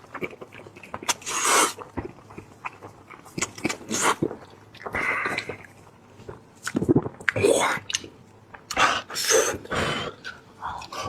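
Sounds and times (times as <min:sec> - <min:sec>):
crunching and chewing cartilage: 0:00.0 - 0:09.1.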